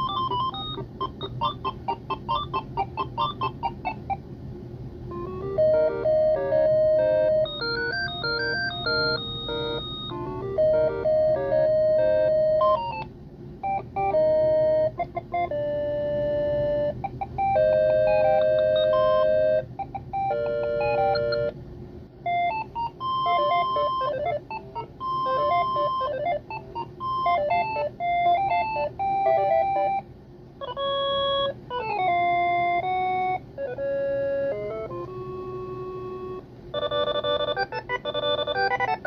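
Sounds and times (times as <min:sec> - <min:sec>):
phone ringtone melodies: 0:00.0 - 0:04.2, 0:05.1 - 0:13.0, 0:13.6 - 0:21.6, 0:22.3 - 0:30.0, 0:30.6 - 0:39.0.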